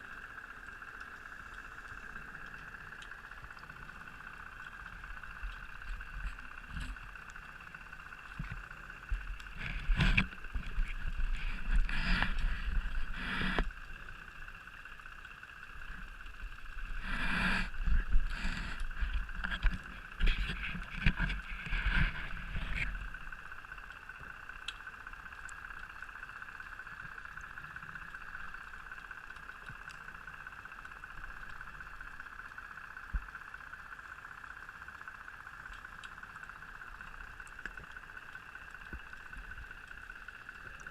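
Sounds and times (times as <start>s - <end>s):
steady high hum: 0.0s - 40.9s.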